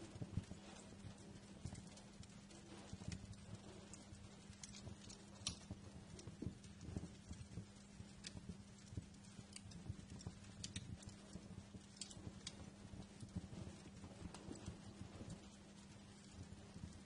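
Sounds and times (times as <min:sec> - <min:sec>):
faint steady hum: 0:00.0 - 0:17.0
wood fire crackling: 0:00.0 - 0:17.0.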